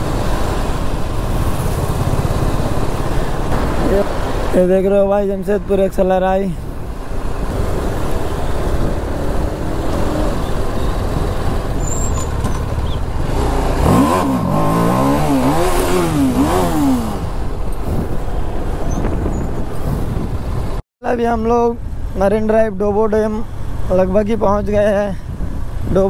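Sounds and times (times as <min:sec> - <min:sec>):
motorcycle engine rumbling and revving: 0:00.0 - 0:04.6, 0:06.6 - 0:26.0
wind: 0:00.0 - 0:26.0.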